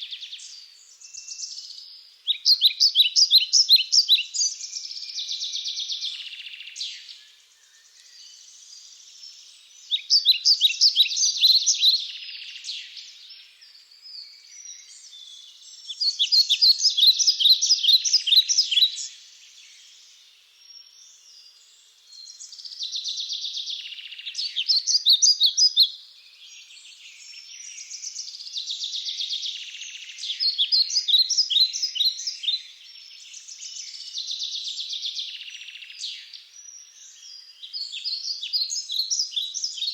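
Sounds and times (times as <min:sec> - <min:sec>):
soft bird chirping: 0:00.0 - 0:39.9
songbird singing: 0:00.0 - 0:39.9.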